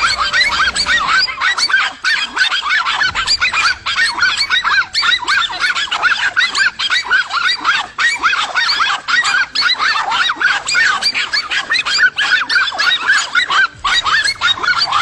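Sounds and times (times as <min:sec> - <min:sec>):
animals yelping: 0:00.0 - 0:15.0.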